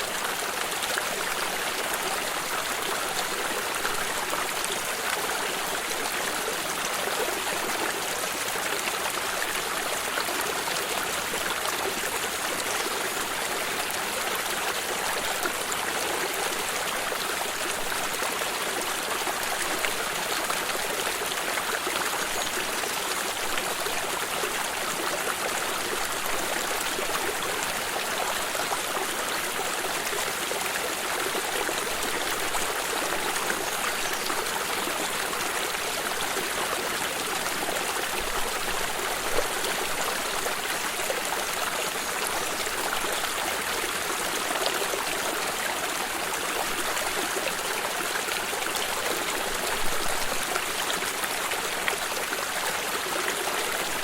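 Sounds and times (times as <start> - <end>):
stream of water flowing: 0.0 - 54.0.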